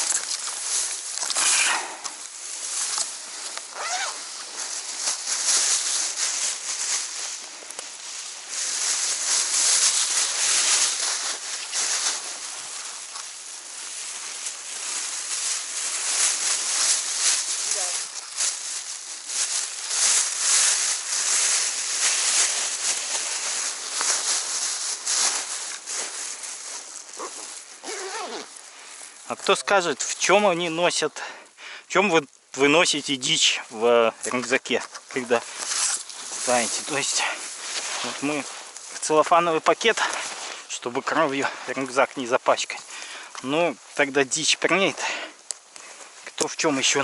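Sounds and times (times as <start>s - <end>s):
dry reeds rustling: 0.0s - 47.0s.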